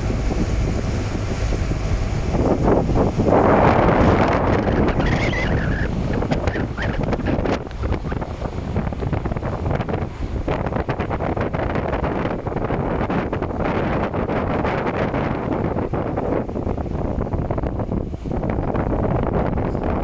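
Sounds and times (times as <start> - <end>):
boat engine rumble: 0.0 - 20.0
water rushing: 0.0 - 20.0
wind buffeting microphone: 0.0 - 20.0.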